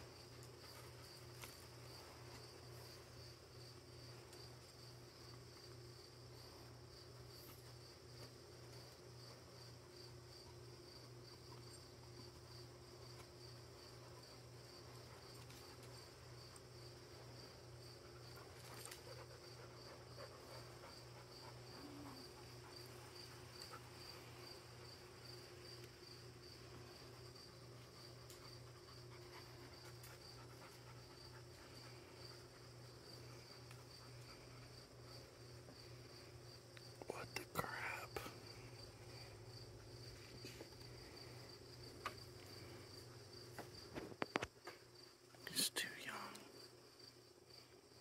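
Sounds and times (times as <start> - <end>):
cricket chirping: 0.0 - 48.0.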